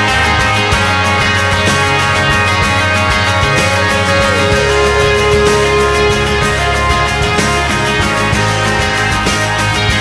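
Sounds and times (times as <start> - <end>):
song with held notes and bass: 0.0 - 10.0.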